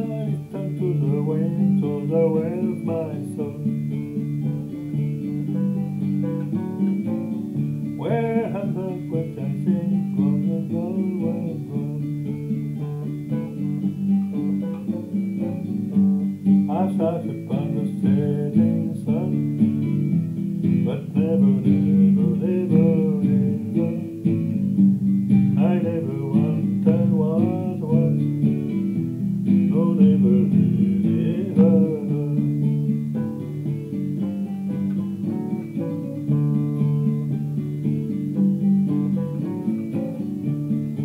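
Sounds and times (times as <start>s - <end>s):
acoustic guitar playing: 0.0s - 41.0s.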